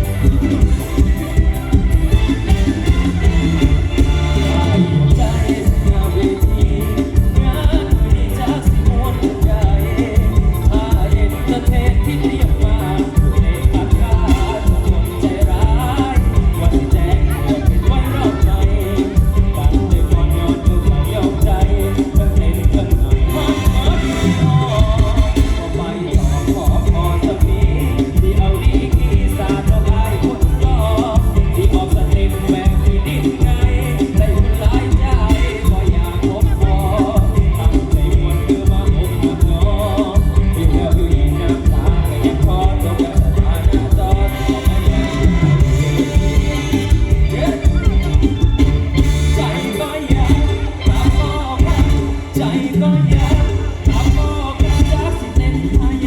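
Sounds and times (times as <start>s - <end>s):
band with fast drum beat: 0.0s - 56.0s
person singing: 0.0s - 56.0s.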